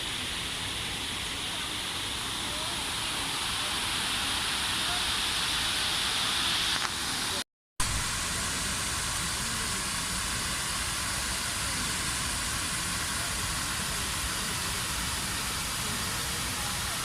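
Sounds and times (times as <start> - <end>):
falling water rushing: 0.0 - 17.0.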